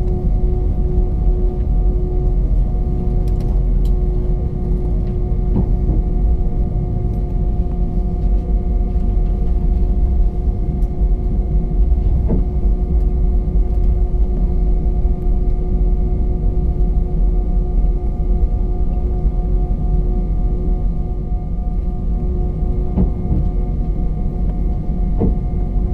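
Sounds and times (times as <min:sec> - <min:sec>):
jet engine cabin rumble: 0:00.0 - 0:25.9
steady humming tones: 0:00.0 - 0:25.9.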